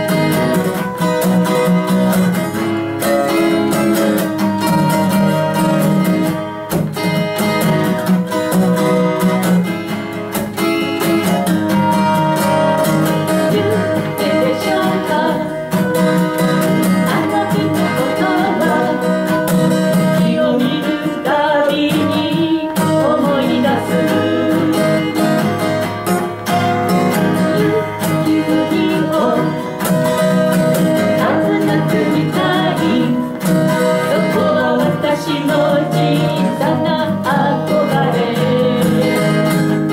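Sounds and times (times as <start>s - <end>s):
acoustic guitars strumming: 0.0s - 39.9s
person singing: 3.1s - 9.9s, 11.0s - 39.9s.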